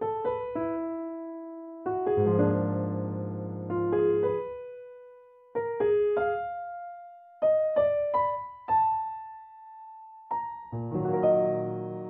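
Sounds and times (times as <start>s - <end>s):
slow solo piano melody: 0.0s - 12.0s.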